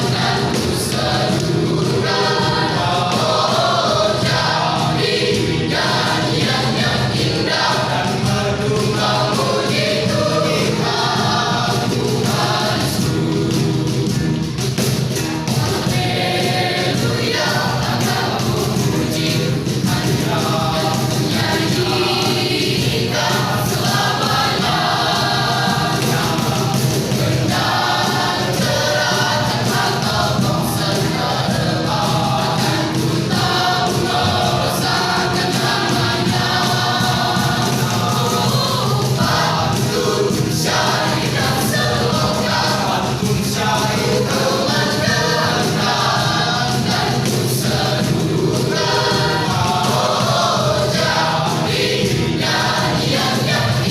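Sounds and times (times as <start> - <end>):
choir singing gospel song: 0.0 - 53.9.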